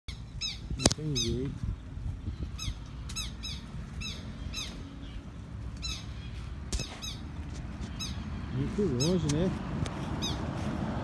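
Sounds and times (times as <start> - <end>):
lapwings alarm calls: 0.1 - 1.4, 2.2 - 9.5, 10.1 - 10.4.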